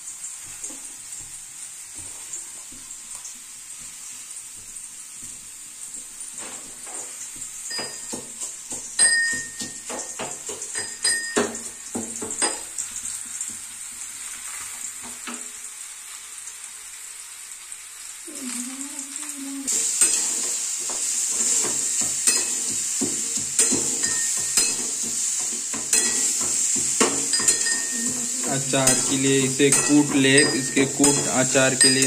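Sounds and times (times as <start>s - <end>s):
oil sizzling: 0.0s - 32.0s.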